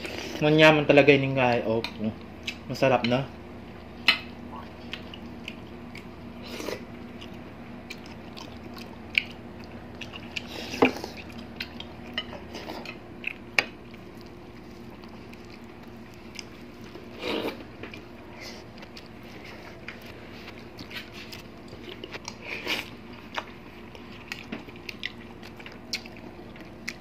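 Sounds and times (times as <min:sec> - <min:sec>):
soft eating sounds: 0:00.0 - 0:27.0.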